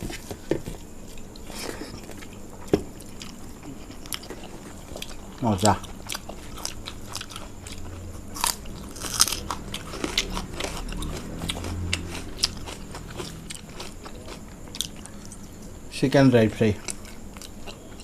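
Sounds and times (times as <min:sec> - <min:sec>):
chewing crunchy fried food: 0:01.1 - 0:15.7, 0:16.8 - 0:18.0.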